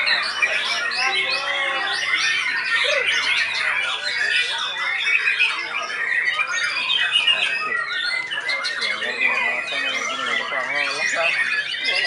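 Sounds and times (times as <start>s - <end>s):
other songbirds singing: 0.0s - 12.0s
songbird singing rapid chirps and trills: 0.0s - 12.0s.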